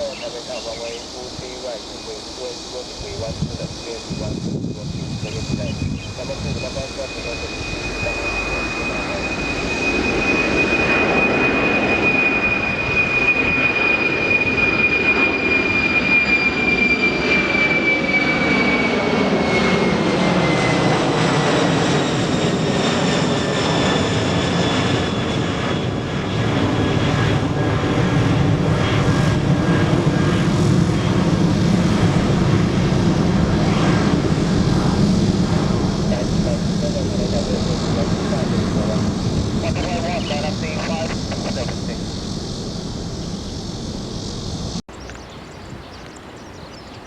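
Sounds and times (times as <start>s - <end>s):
aircraft rumble: 0.0s - 47.0s
jet airliner engine whine: 0.0s - 47.0s.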